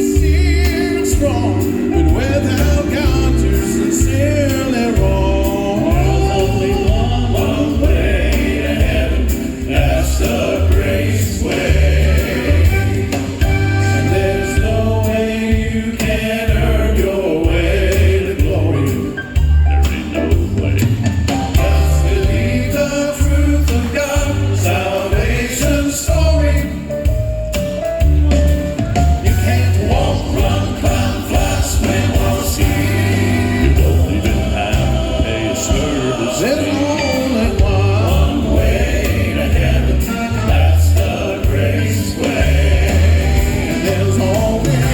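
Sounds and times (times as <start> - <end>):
gospel quartet singing in harmony: 0.0 - 27.6, 28.4 - 44.9
band accompaniment: 0.0 - 44.9.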